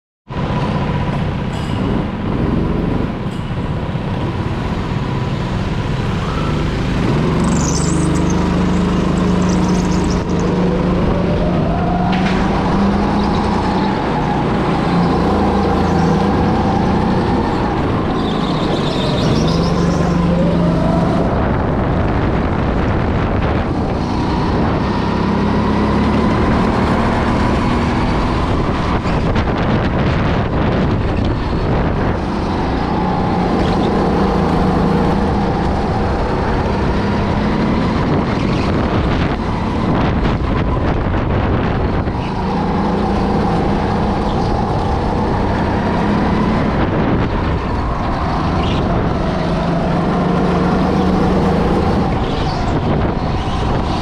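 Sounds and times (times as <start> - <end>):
go-kart engine revving: 4.2 - 54.0.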